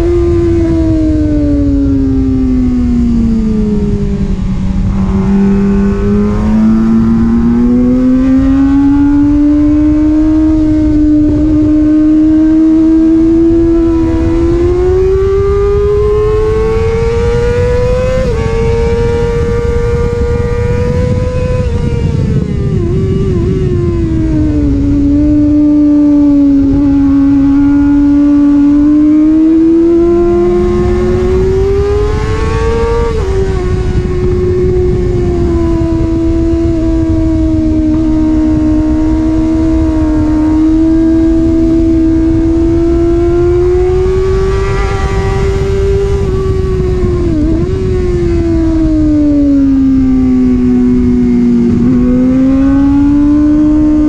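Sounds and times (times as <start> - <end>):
motorcycle engine running hard: 0.0 - 54.0
wind rush on microphone: 0.0 - 54.0.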